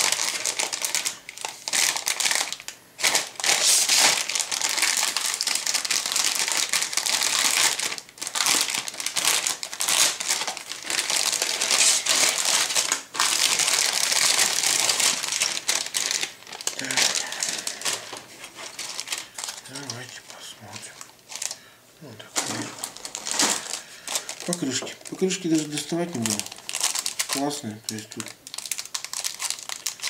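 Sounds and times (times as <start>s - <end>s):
plastic bags crinkling: 0.0s - 30.0s.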